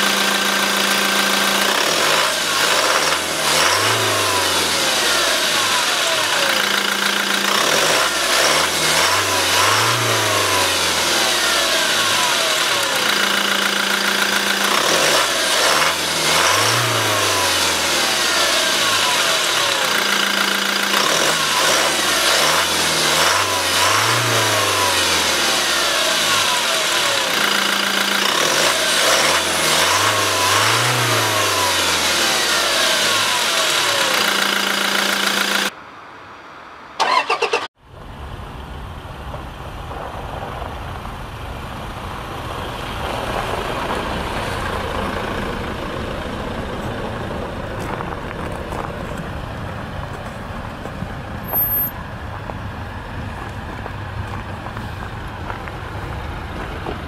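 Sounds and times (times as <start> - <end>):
diesel engine revving and idling: 0.0 - 35.8, 37.0 - 57.0.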